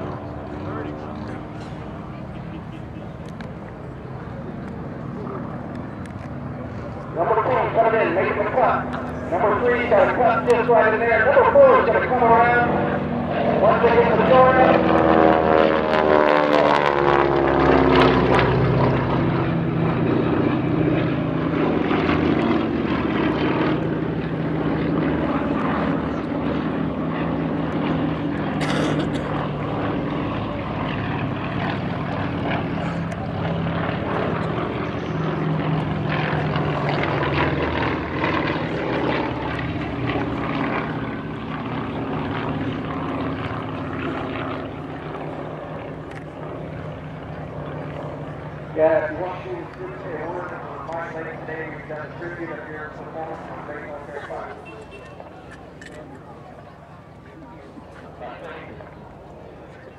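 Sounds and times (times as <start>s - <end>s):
propeller aircraft engines droning: 0.0s - 59.9s.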